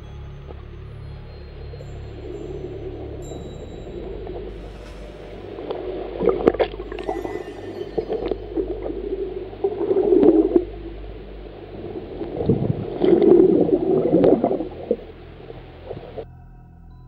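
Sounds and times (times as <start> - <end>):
water gurgling and bubbling underwater: 0.0 - 16.2.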